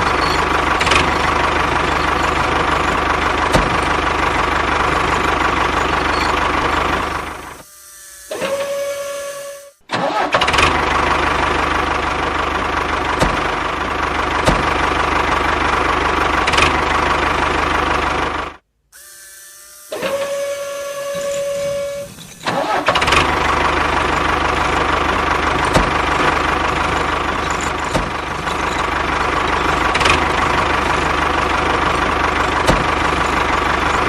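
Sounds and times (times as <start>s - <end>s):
engine running: 0.0s - 18.6s, 19.8s - 34.0s.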